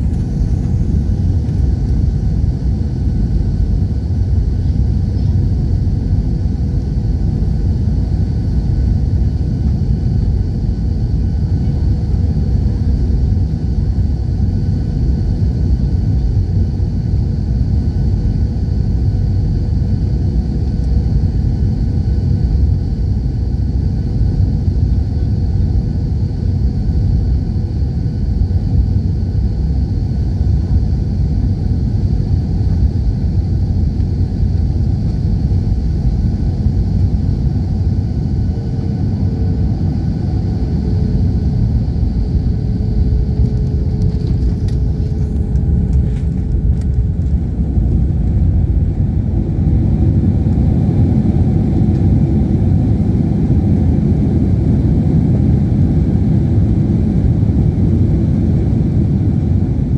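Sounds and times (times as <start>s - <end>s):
airliner engines and wheels rumbling: 0.0s - 59.9s.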